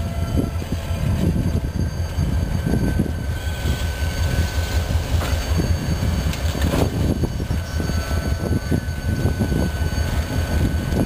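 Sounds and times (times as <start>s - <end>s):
diesel locomotive rumble: 0.0s - 11.0s
high whine: 0.0s - 11.0s.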